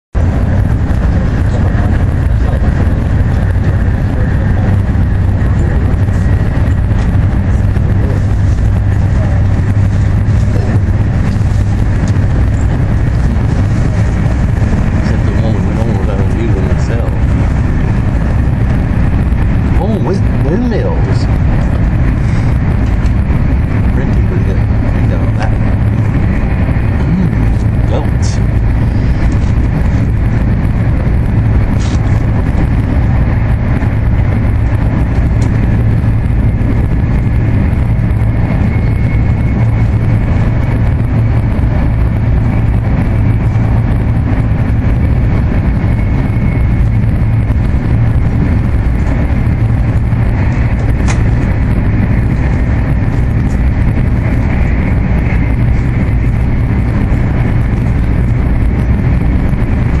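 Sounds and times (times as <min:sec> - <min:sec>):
train cabin rumble: 0:00.1 - 1:00.0.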